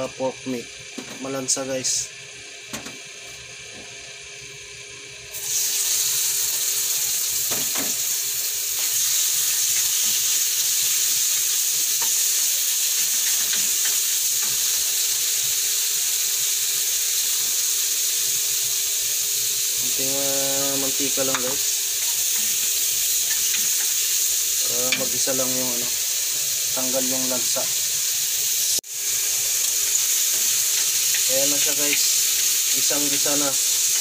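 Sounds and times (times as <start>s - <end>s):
liver sizzling in hot oil: 5.3s - 34.0s.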